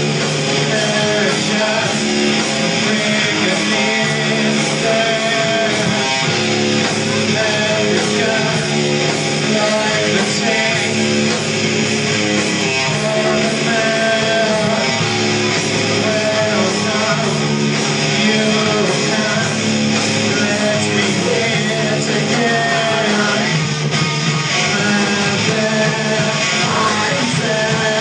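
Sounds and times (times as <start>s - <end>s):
drums: 0.0s - 28.0s
electric guitar: 0.0s - 28.0s.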